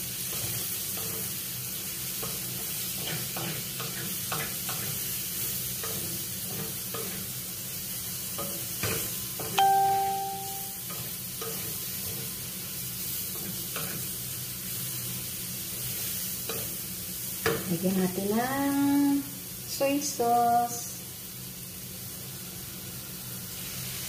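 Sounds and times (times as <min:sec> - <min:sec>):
vegetables sizzling in a pan: 0:00.0 - 0:24.0.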